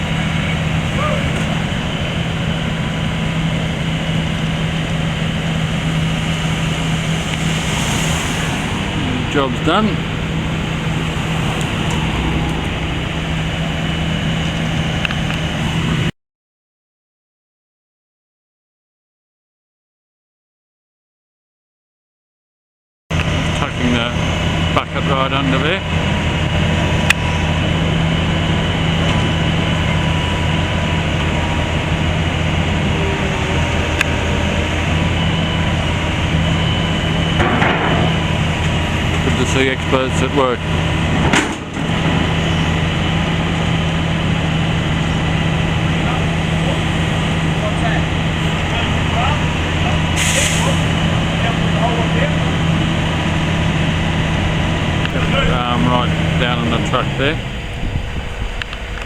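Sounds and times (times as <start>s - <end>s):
heavy machinery engine running: 0.0s - 16.1s, 23.2s - 59.0s.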